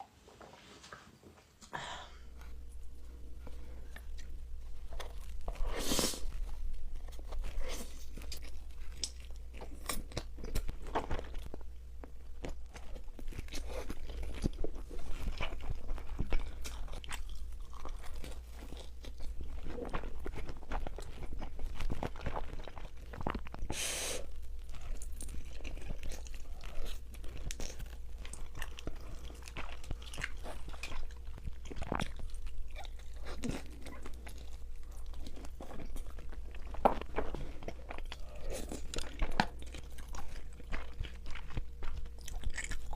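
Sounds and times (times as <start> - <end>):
steady low hum: 0.0 - 42.9
person chewing crunchy pizza: 2.3 - 42.9.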